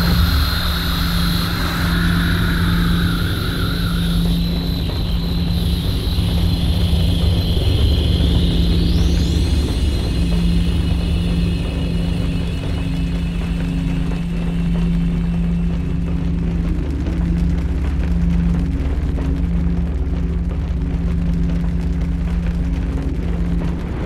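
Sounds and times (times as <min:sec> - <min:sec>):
low drone of held tones: 0:00.0 - 0:24.0
rushing crackling noise: 0:00.0 - 0:24.0.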